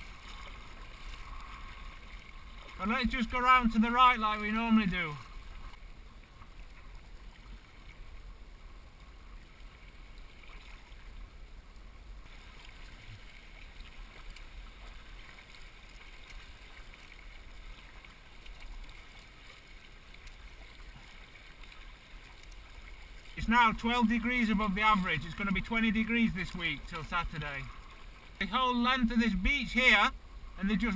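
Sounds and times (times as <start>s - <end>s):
water lapping against kayak hull: 0.0s - 30.9s.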